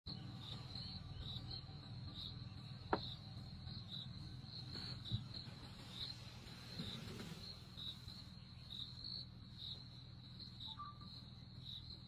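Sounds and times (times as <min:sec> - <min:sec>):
insects chirping: 0:00.1 - 0:12.0
low steady rumble: 0:00.1 - 0:12.0.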